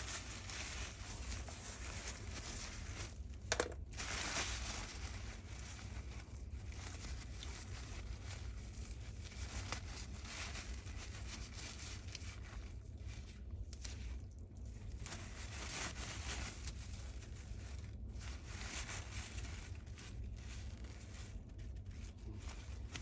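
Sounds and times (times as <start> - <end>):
rustling and scraping dust: 0.0 - 23.0.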